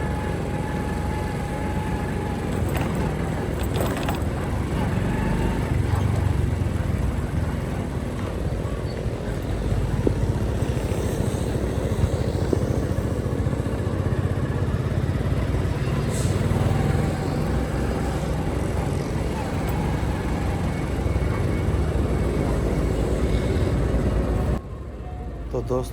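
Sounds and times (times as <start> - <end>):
motorcycle engine running: 0.0 - 24.6
road noise: 0.0 - 25.9.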